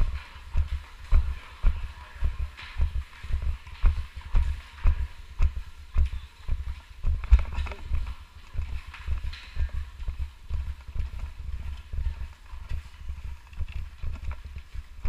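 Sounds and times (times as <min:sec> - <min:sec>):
heavy low footstep thumps: 0:00.0 - 0:15.0
skate footsteps clomping: 0:00.0 - 0:15.0.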